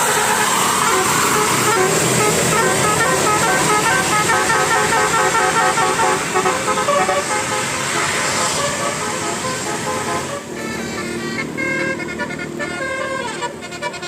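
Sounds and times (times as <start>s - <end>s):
bus horn playing a tune: 0.0s - 14.0s.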